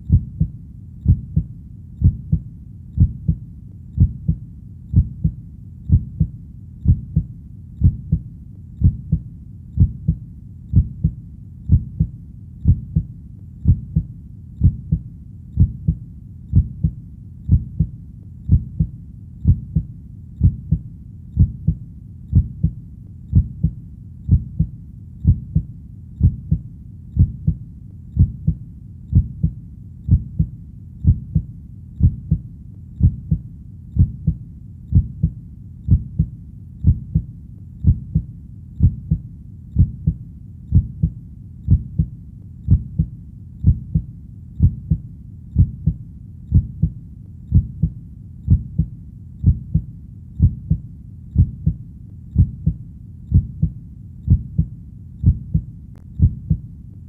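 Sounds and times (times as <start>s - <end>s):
heartbeat thumping: 0.0s - 3.4s, 4.0s - 20.8s, 21.4s - 27.6s, 28.2s - 56.7s.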